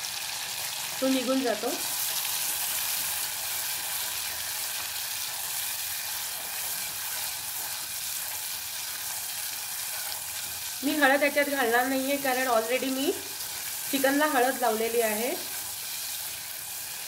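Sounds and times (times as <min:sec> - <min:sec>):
paste sizzling in hot fat: 0:00.0 - 0:17.0.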